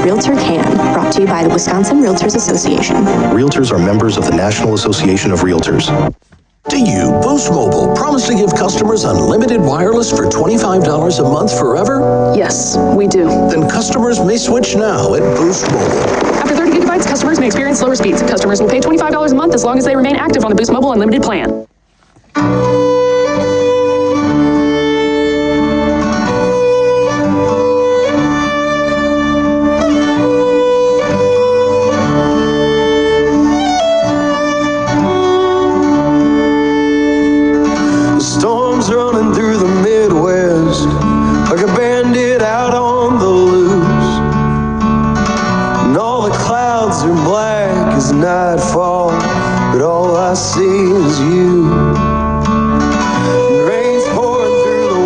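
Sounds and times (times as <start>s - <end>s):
country music with fiddle and guitar: 0.0s - 21.7s, 22.4s - 55.0s.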